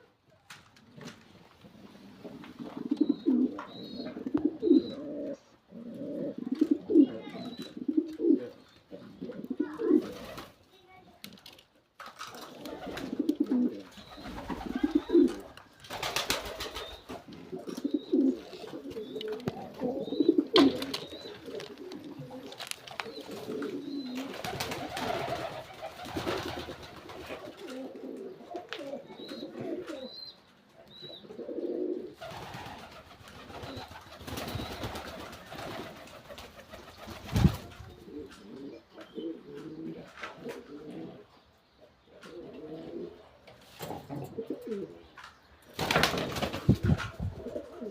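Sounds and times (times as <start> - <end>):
pigeons cooing: 0.9 - 10.5, 12.4 - 47.9.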